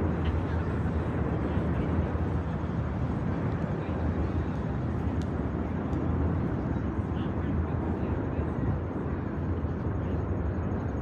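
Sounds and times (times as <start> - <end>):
low rumble of city ambience: 0.0 - 11.0.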